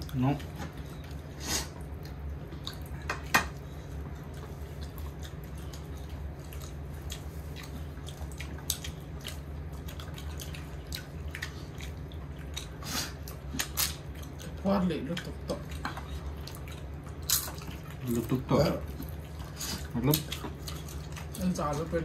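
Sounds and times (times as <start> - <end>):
soft chewing: 0.0 - 22.0
steady low hum: 0.0 - 22.0.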